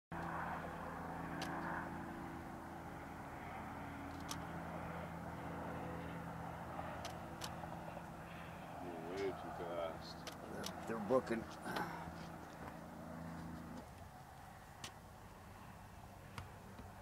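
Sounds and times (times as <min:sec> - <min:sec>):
low hum: 0:00.2 - 0:17.0.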